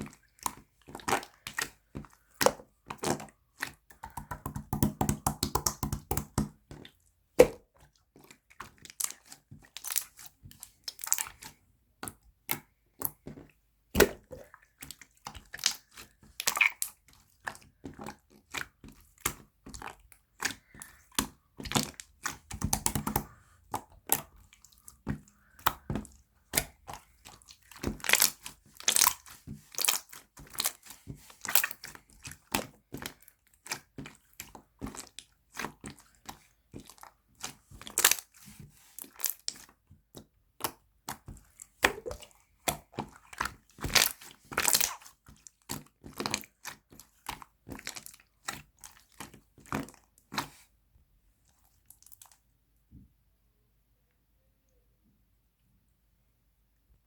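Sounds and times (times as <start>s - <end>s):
jelly crunching crackles: 0.0s - 50.7s, 51.4s - 52.4s.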